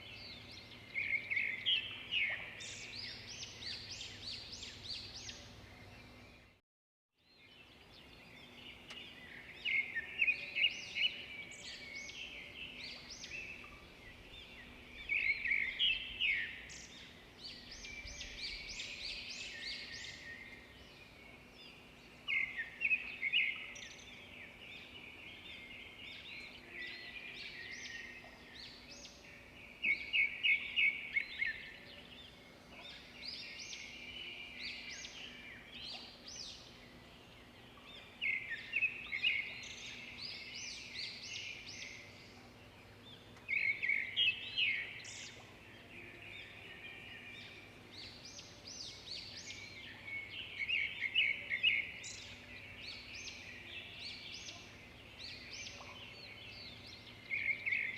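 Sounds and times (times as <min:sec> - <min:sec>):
songbirds singing: 0:00.0 - 0:06.6, 0:07.2 - 0:57.9.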